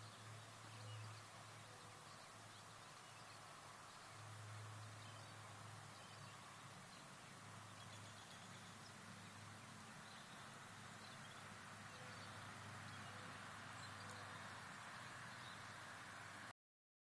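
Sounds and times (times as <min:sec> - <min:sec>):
outdoor background hiss: 0:00.0 - 0:16.5.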